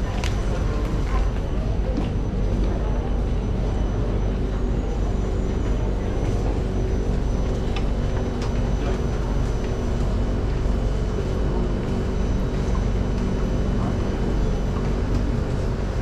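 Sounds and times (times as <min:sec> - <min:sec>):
echoing station noise: 0:00.0 - 0:16.0
train humming: 0:00.0 - 0:16.0.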